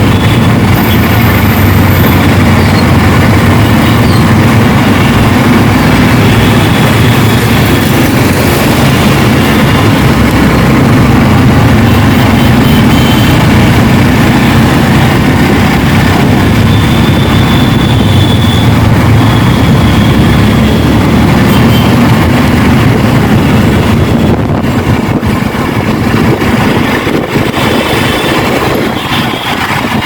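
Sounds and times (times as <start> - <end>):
motorcycle engine: 0.0 - 30.0
traffic noise: 0.0 - 30.0
wind rush over microphone: 0.0 - 30.0.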